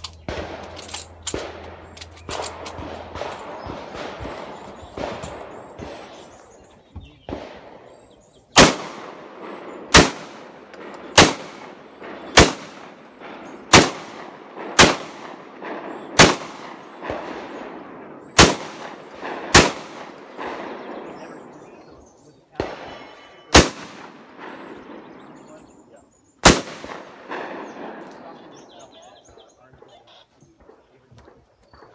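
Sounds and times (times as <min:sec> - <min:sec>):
shotgun shots: 0:00.0 - 0:30.0.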